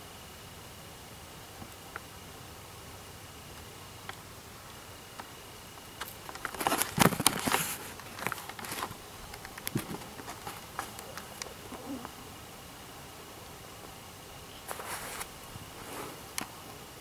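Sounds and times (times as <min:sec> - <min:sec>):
dry grass rustling: 0:01.6 - 0:16.7.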